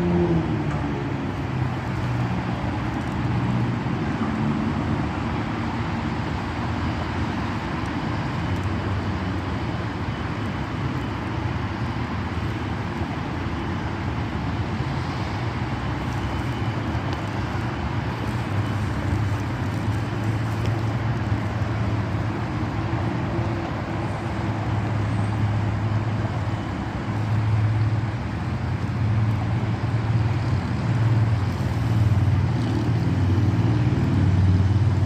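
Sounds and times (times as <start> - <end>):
outdoor background rumble: 0.0 - 35.0.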